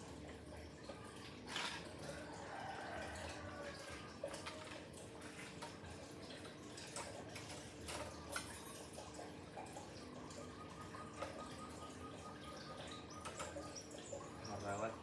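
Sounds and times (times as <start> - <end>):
water dripping and splashing: 0.0 - 15.0.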